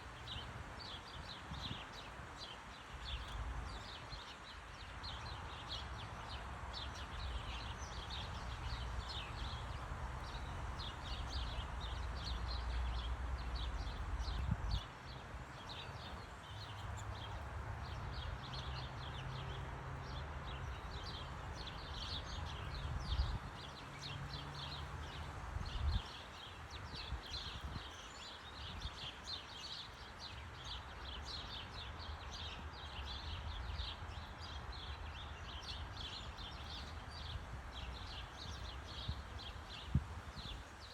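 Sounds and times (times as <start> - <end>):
small birds chirping: 0.1 - 40.9.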